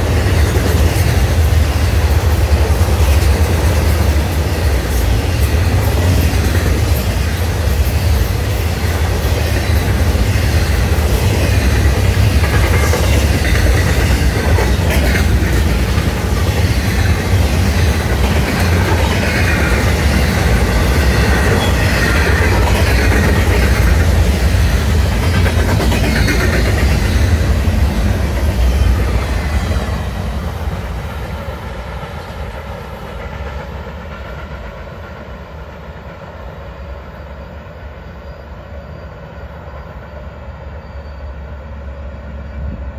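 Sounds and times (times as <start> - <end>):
freight train wheels on rails: 0.0 - 42.9.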